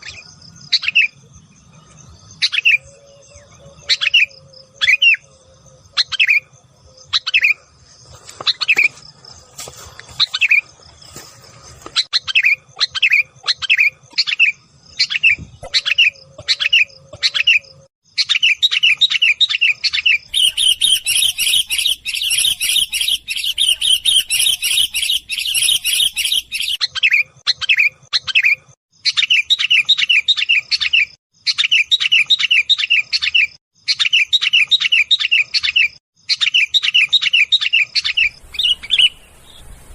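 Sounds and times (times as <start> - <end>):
bulbuls chirping and chattering: 1.8 - 39.9.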